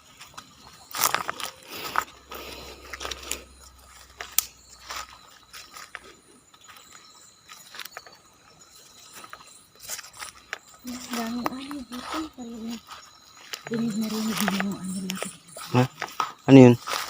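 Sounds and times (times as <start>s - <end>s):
crunches and scrapes on dry ground: 0.0s - 17.0s.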